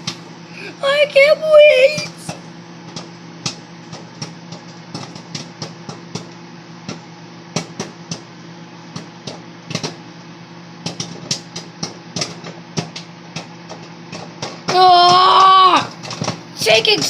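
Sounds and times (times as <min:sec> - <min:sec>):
microwave oven humming: 0:00.0 - 0:17.0
popcorn popping: 0:00.0 - 0:17.0.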